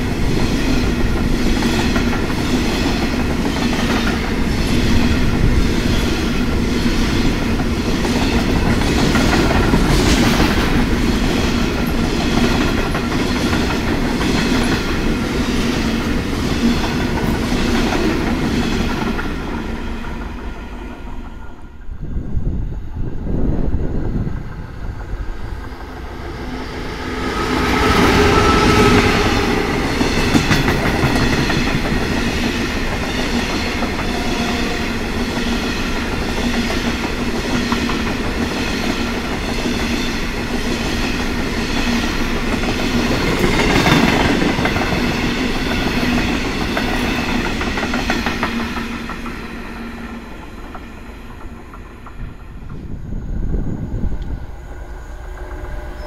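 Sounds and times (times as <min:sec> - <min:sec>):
locomotive passing: 0:00.0 - 0:56.0.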